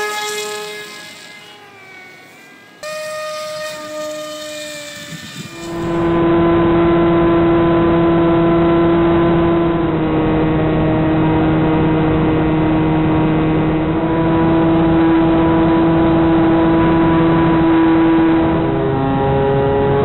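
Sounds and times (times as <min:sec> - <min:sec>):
electric motor and propeller whine: 0:00.0 - 0:20.0.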